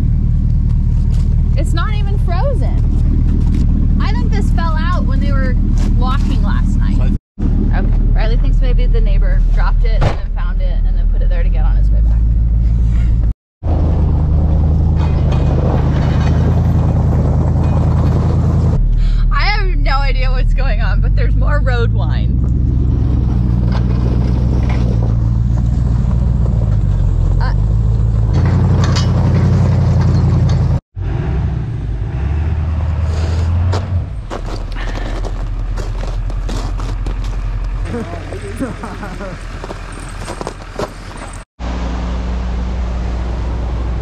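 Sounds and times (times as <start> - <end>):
road noise: 0.0 - 44.0
truck engine drone: 0.0 - 44.0.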